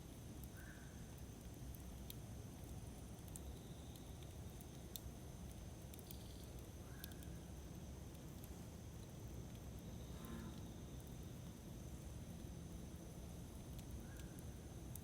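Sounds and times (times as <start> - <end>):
campfire flames rumbling: 0.0 - 15.0
fire crackles: 0.0 - 15.0.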